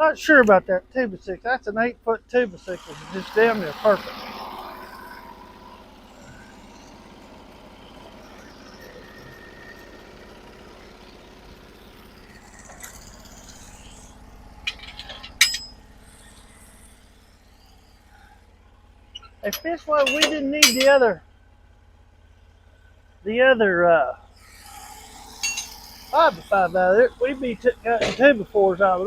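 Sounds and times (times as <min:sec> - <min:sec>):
engine idling with low hum: 0:00.0 - 0:29.0.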